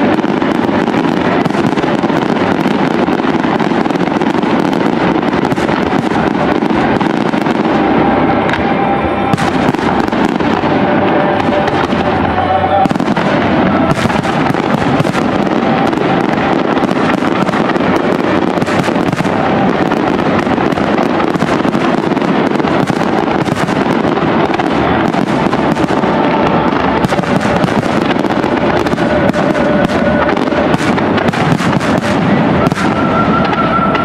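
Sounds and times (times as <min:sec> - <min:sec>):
firework shells bursting: 0:00.0 - 0:34.0.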